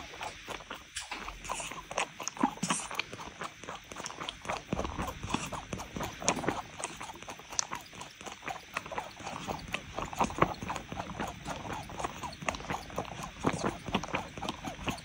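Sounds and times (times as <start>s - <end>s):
cat suckling from a bottle: 0.0s - 15.0s.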